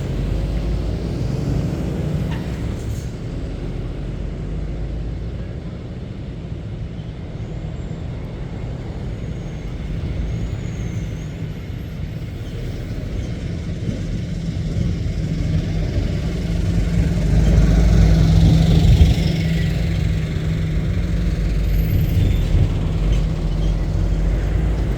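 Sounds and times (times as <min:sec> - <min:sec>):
lorry diesel engine rumble: 0:00.0 - 0:24.9.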